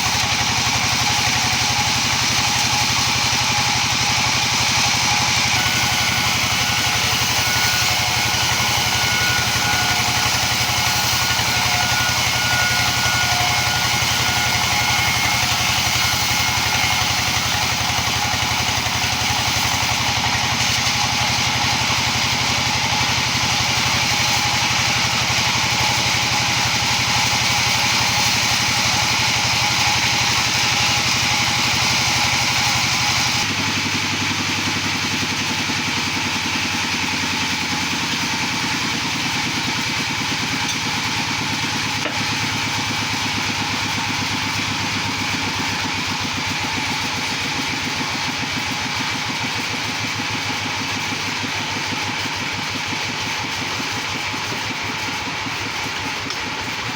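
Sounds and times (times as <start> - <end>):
wood-slicing machine running: 0.0 - 56.9.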